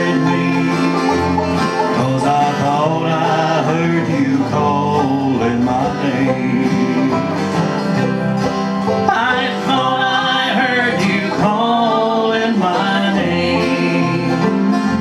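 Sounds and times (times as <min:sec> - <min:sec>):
banjo: 0:00.0 - 0:15.0
bass: 0:00.0 - 0:15.0
strummed acoustic guitars: 0:00.0 - 0:15.0.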